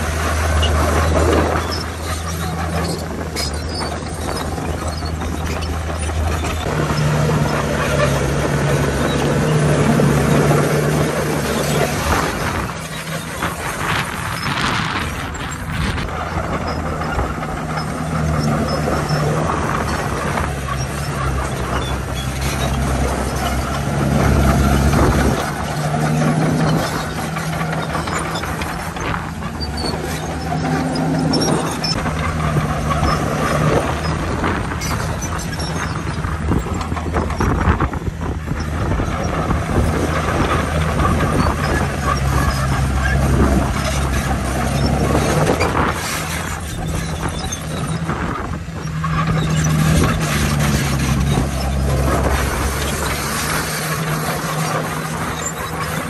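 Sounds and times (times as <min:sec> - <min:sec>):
heavy diesel engines under load: 0:00.0 - 0:56.0.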